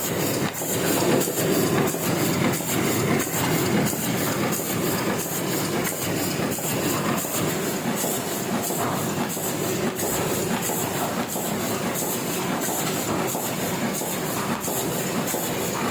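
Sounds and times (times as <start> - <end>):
printing press clattering: 0.0 - 15.9.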